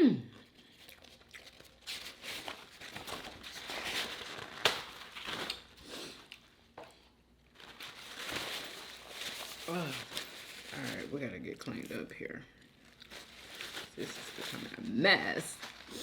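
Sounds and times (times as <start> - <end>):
paper wrapper crinkling: 0.6 - 6.5, 7.4 - 16.0.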